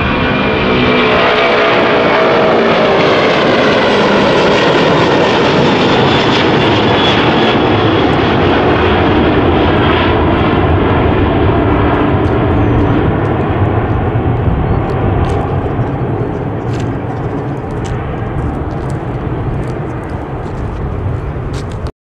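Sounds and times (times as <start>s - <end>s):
jet engines roaring at takeoff: 0.0s - 21.9s.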